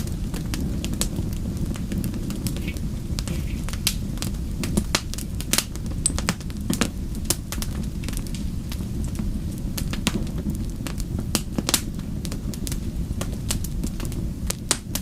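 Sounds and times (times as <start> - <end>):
fire roaring: 0.0 - 15.0
logs crackling and popping: 0.0 - 15.0.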